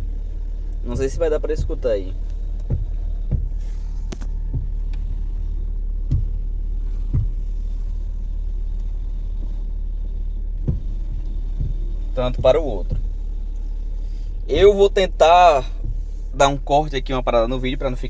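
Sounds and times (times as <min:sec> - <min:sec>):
car engine idling: 0:00.0 - 0:18.0
steering clicks and knocks: 0:00.0 - 0:18.0.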